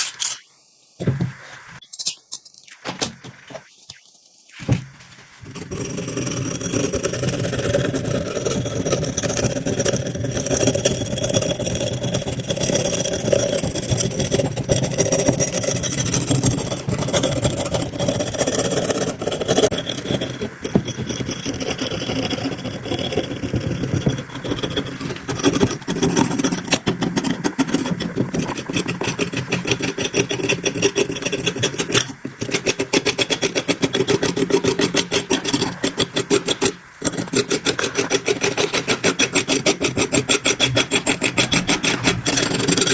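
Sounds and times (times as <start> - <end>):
grinder scraping rusted steel: 0.0 - 42.9.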